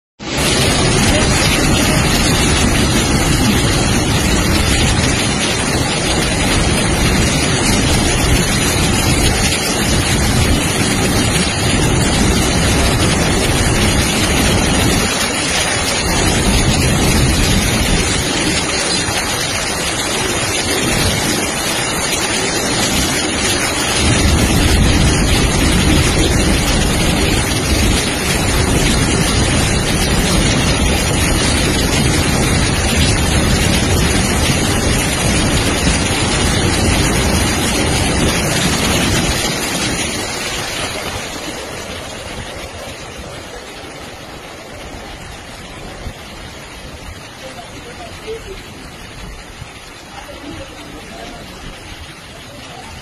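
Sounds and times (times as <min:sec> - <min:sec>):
freight train rushing through water: 0:00.2 - 0:53.0
heavy rain: 0:00.2 - 0:53.0
wind buffeting microphone: 0:00.2 - 0:53.0.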